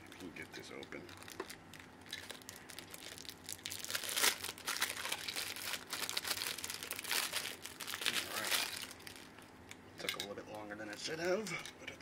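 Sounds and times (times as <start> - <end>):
plastic bag crinkling: 0.1 - 9.8.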